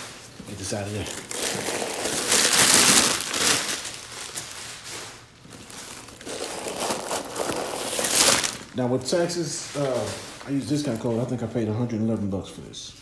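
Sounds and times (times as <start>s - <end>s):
packing stuffing rustling: 0.0s - 11.4s.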